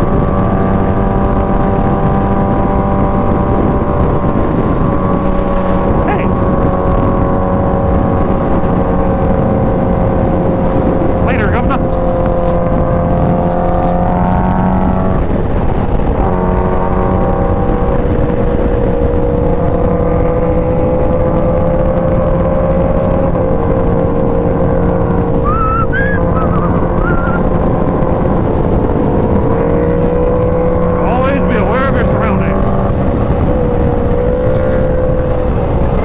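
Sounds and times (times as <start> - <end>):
motorcycle engine cruising: 0.0 - 36.0
road noise: 0.0 - 36.0
wind noise: 0.0 - 36.0.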